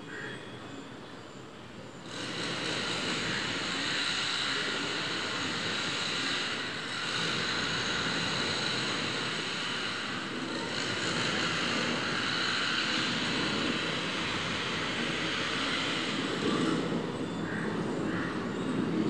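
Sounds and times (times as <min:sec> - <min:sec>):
jet airliner flying overhead: 0:00.0 - 0:19.0.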